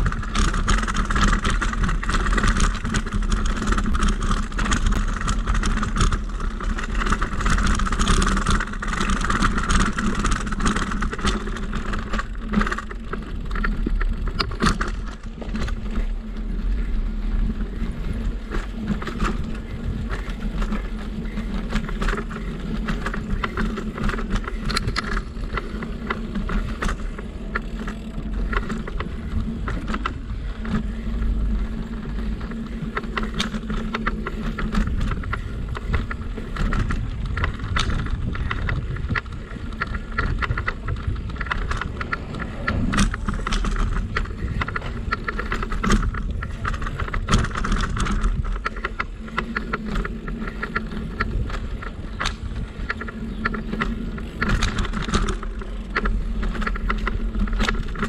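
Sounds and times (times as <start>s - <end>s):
bicycle frame rattles and clicks: 0.0s - 58.0s
bicycle tyres rumbling: 0.0s - 58.0s
wind on microphone: 0.0s - 58.0s.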